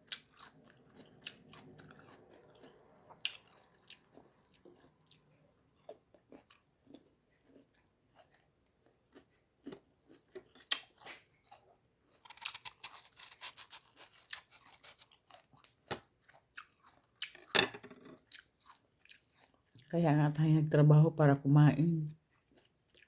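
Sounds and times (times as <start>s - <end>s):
chewing and crunching: 0.0s - 20.0s, 22.1s - 23.0s.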